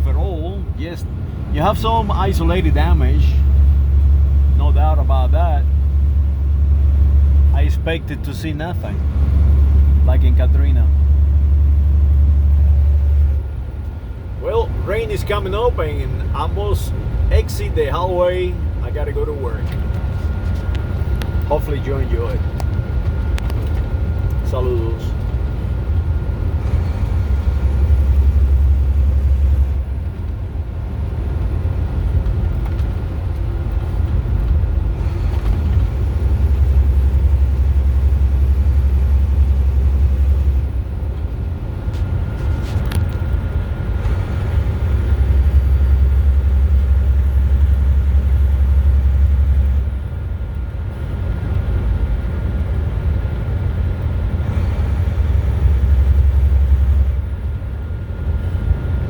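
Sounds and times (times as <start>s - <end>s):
car road rumble: 0.0s - 59.0s.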